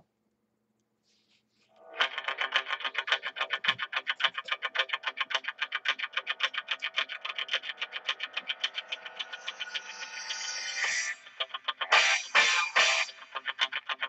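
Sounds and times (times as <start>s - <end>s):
music with fast pulse: 2.0s - 14.0s.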